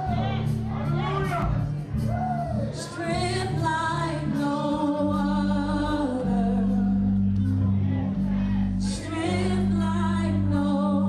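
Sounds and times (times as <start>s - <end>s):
keyboard sustained chords: 0.0s - 11.0s.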